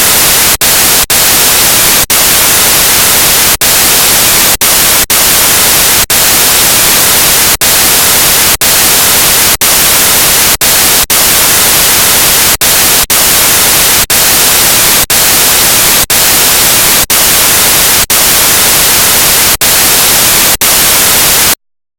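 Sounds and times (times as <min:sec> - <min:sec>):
loud static hiss: 0:00.0 - 0:21.6.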